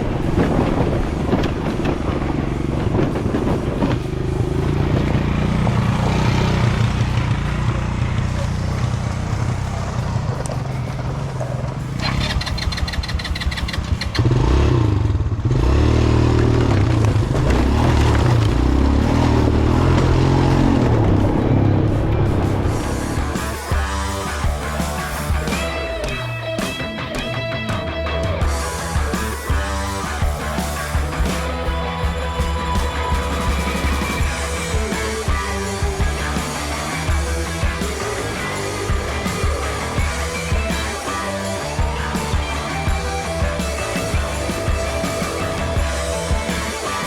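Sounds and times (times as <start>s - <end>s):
atv engine under load: 0.0s - 47.0s.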